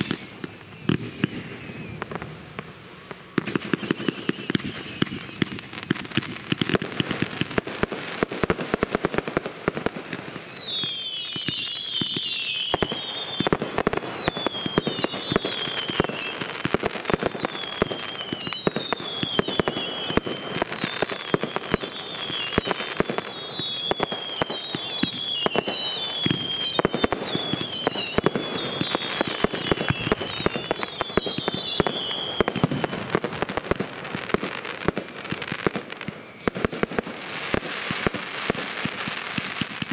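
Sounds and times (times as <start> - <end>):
falling firework whistles: 0.0 - 39.9
fireworks bangs and crackling: 0.0 - 39.9.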